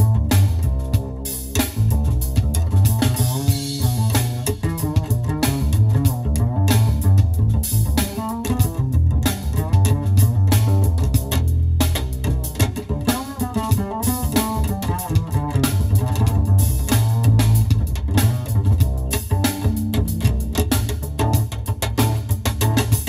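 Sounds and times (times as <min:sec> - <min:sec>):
jazz with bass and drums: 0:00.0 - 0:23.0.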